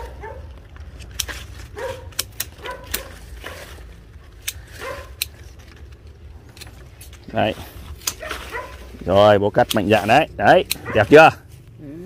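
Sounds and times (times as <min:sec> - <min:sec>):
pruning shears snipping branches: 0:00.0 - 0:11.6.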